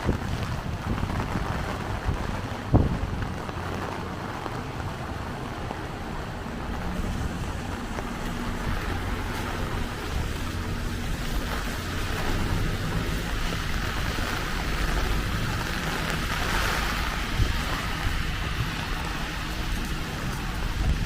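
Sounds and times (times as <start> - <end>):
heavy rain falling: 0.0 - 21.0
wind rumbling on microphone: 0.0 - 21.0.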